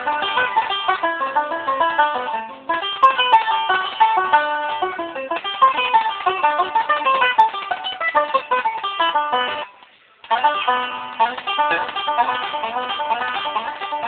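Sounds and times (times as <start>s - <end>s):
banjo picked rapidly: 0.0s - 14.0s.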